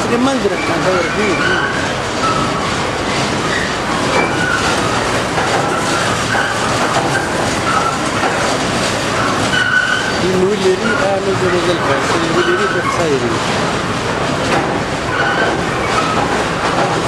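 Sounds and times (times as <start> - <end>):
mill machinery running: 0.0 - 17.0.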